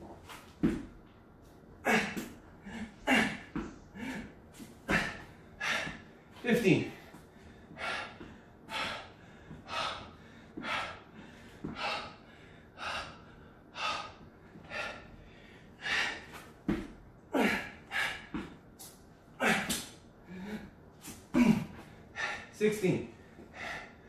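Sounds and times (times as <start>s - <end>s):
man breathing heavily: 1.8s - 24.0s.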